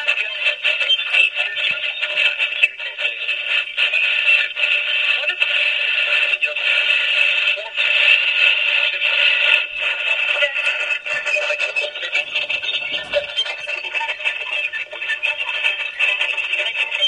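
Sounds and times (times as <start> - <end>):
clipped broadcast music: 0.0 - 17.0
clipped broadcast voices: 0.0 - 17.0
radio static: 0.0 - 17.0.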